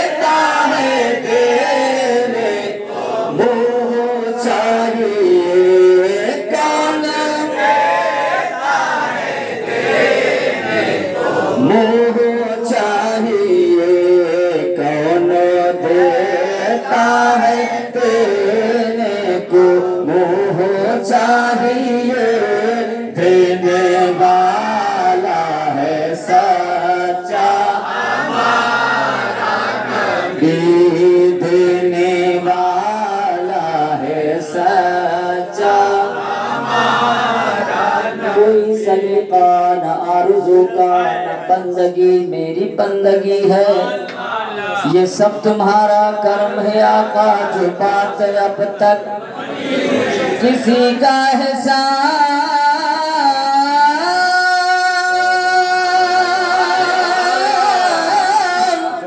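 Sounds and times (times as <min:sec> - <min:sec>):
men singing a devotional hymn: 0:00.0 - 0:59.0.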